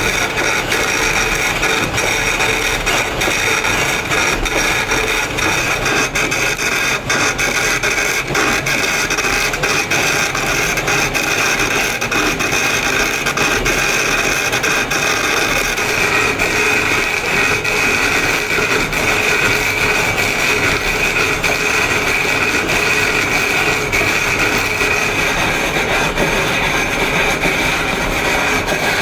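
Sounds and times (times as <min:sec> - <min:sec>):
power tool grinding stone: 0:00.0 - 0:29.0.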